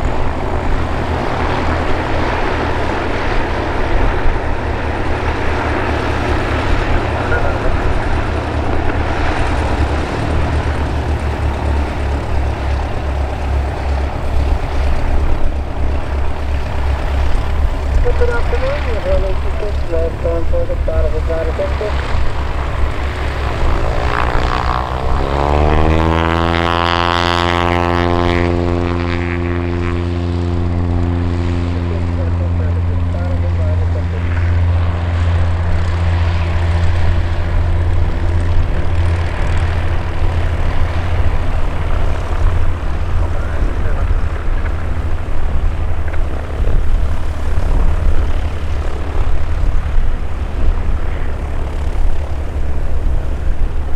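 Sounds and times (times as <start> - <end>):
propeller plane engine drone: 0.0 - 53.9.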